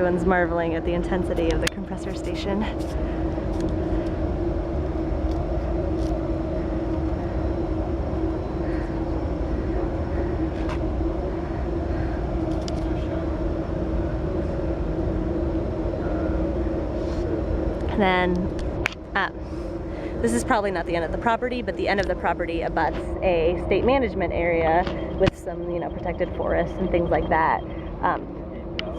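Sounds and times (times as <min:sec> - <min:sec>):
compressor station machine drone: 0:00.0 - 0:28.9.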